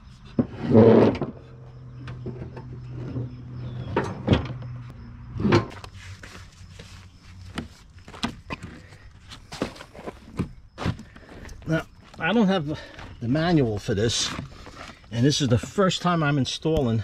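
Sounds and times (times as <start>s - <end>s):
mower deck scraping on wood: 0.2s - 15.8s.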